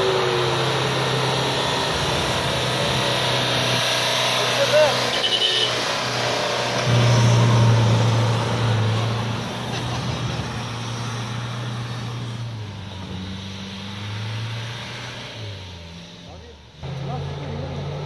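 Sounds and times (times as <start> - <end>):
off-road vehicle engine: 0.0 - 18.0.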